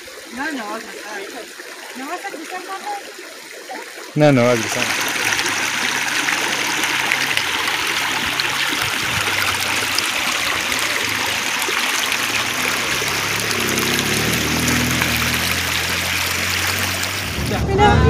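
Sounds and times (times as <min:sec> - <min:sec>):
stream babbling over rocks: 0:00.0 - 0:17.5.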